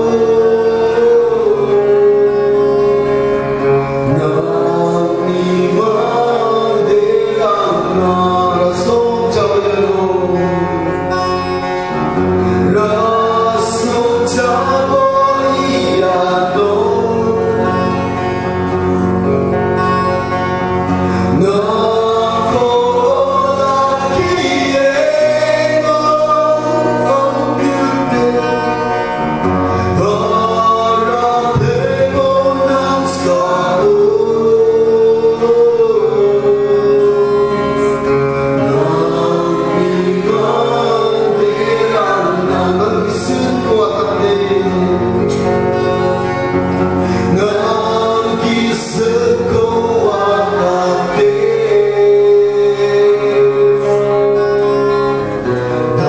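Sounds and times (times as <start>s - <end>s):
men singing gospel song: 0.0s - 2.5s, 4.0s - 10.9s, 12.5s - 18.2s, 21.1s - 46.2s, 46.9s - 54.4s
instrumental accompaniment: 0.0s - 56.0s.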